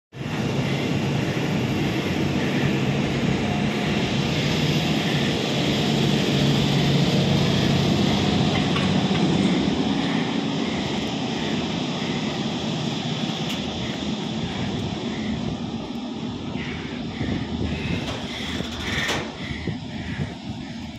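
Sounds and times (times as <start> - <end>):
electric locomotive hum: 0.1 - 20.9
train wheel and rail noise: 0.1 - 20.9.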